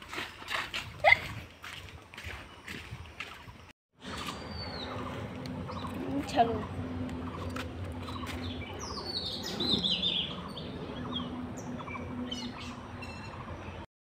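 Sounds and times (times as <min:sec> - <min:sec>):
small birds chirping: 0:02.2 - 0:13.9.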